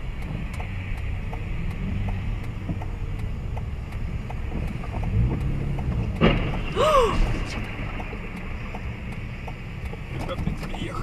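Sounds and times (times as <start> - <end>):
faint regular ticking: 0.0 - 6.6, 7.6 - 11.0
car engine and tyre rumble: 0.0 - 11.0.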